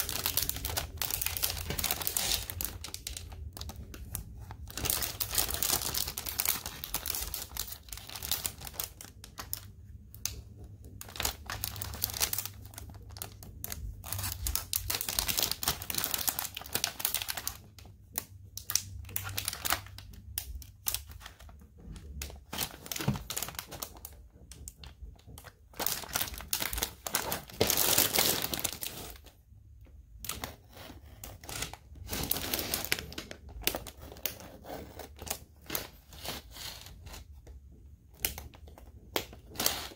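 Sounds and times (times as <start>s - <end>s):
plastic packaging crinkling: 0.0s - 29.4s, 30.2s - 37.5s, 38.1s - 39.9s.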